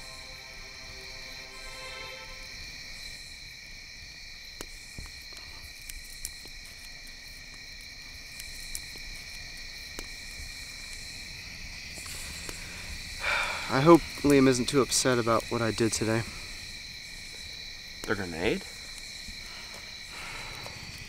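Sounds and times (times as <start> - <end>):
crickets chirping: 0.0 - 21.0
campfire embers popping: 2.5 - 21.0.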